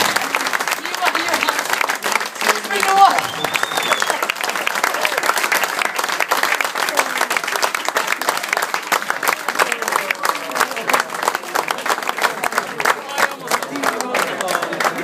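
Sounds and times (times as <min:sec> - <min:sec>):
audience applauding: 0:00.0 - 0:15.0
crowd voices: 0:00.0 - 0:15.0.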